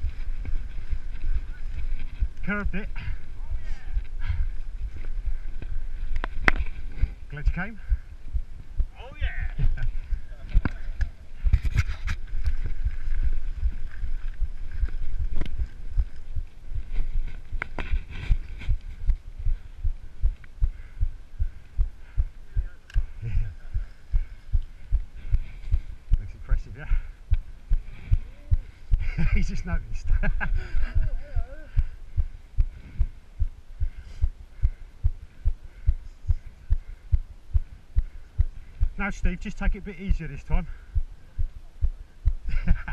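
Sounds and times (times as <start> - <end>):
regular low thumps: 0.0 - 42.9.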